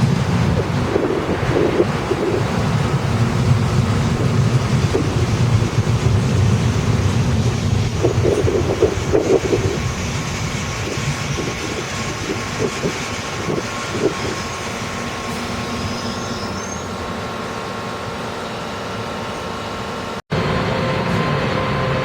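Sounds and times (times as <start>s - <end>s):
train running hum: 0.0s - 22.0s.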